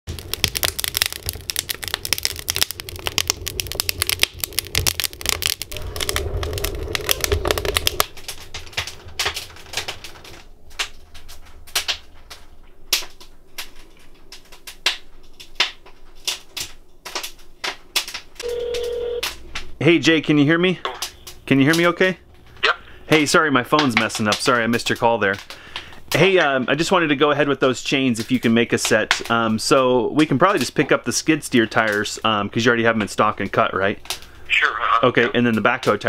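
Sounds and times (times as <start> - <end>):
logs crackling and popping: 0.0 - 36.0
low fire rumble: 0.1 - 36.0.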